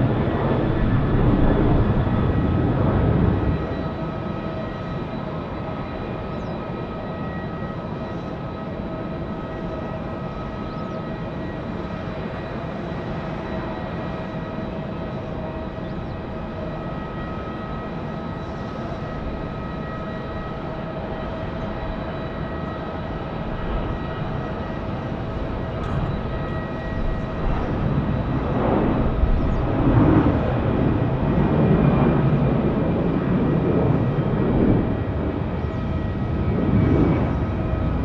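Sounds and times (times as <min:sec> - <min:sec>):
jet engines whining: 0:00.0 - 0:38.0.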